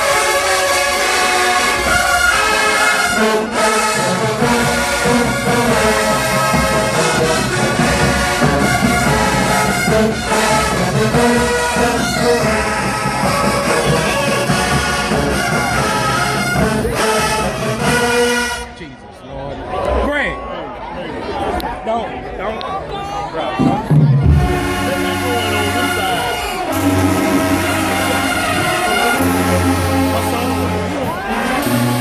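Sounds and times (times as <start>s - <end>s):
marching band brass playing: 0.0s - 18.9s, 23.8s - 32.0s.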